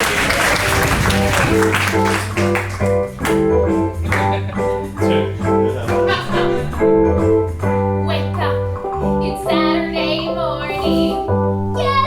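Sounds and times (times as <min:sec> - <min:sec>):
repeated chords over bass and beat: 0:00.8 - 0:12.0.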